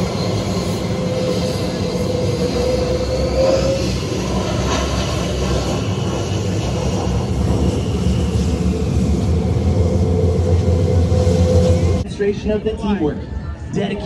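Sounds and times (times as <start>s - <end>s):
airplane engine rumble: 0.0s - 14.0s.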